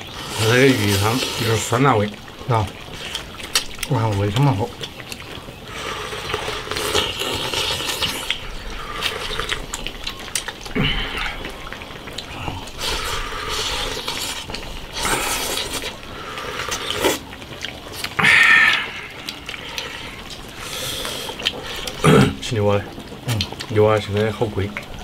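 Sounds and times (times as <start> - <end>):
people slurping soup: 0.0 - 24.3.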